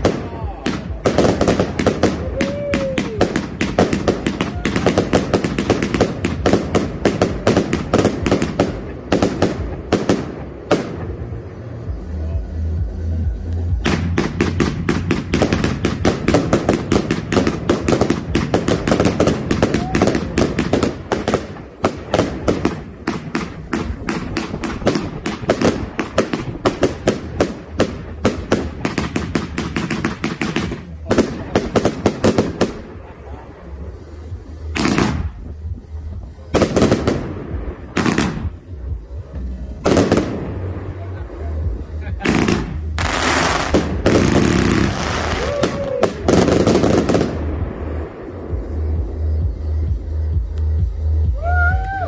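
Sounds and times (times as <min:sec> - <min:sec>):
fireworks bangs: 0:00.0 - 0:12.1, 0:13.8 - 0:49.7.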